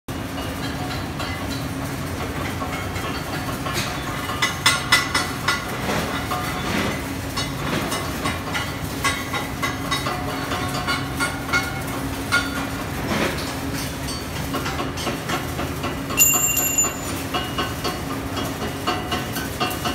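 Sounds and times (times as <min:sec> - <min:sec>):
metallic clanks and crackles: 0:00.3 - 0:19.9.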